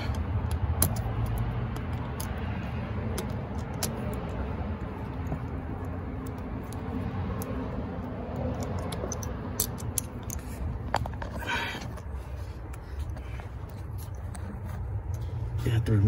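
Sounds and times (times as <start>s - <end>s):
small metal clicks: 0.0s - 15.2s.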